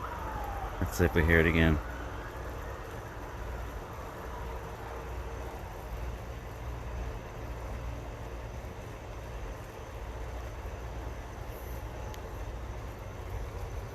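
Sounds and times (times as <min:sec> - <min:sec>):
outdoor background hiss: 0:00.0 - 0:13.9.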